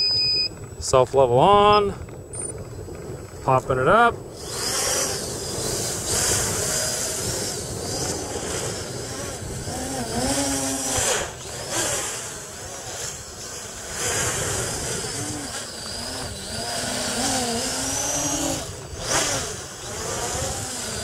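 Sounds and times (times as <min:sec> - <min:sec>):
drone motors and propellers whining: 0:01.4 - 0:21.0.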